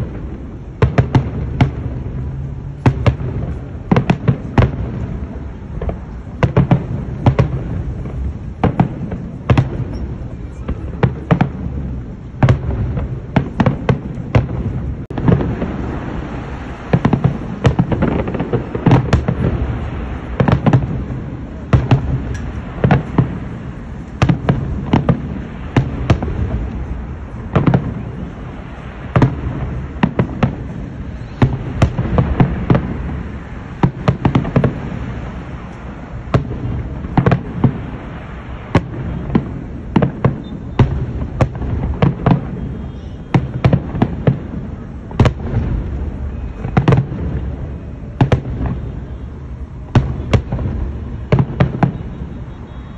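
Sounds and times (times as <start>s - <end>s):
fireworks bangs: 0.0s - 52.9s.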